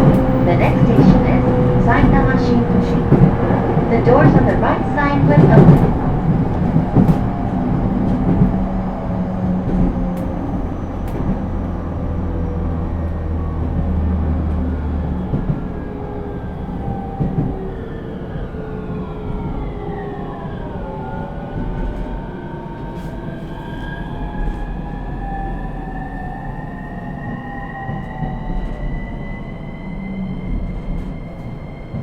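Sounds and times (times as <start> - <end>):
rail joint clicks: 0.0 - 20.6, 21.5 - 32.0
wheel and rail rumble: 0.0 - 32.0.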